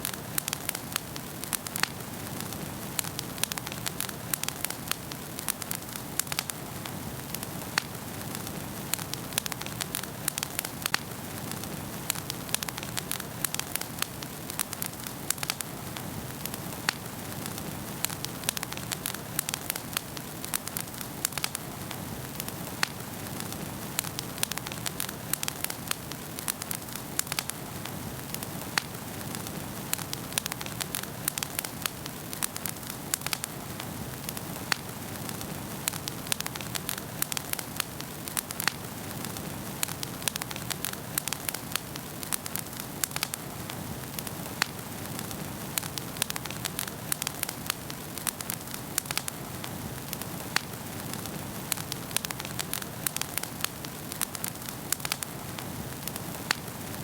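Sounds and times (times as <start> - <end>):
hiss of burning logs: 0.0 - 57.0
sharp pops and snaps: 0.0 - 57.0
wood fire crackling: 0.0 - 57.0.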